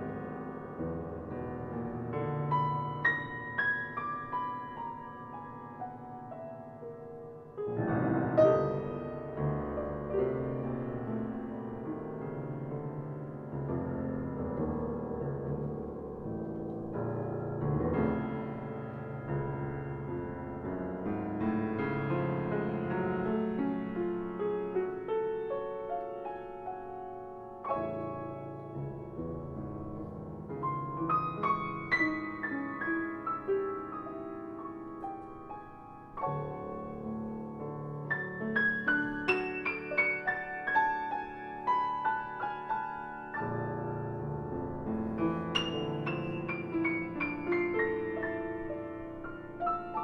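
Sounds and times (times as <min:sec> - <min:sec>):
solo piano playing: 0:00.0 - 0:50.0.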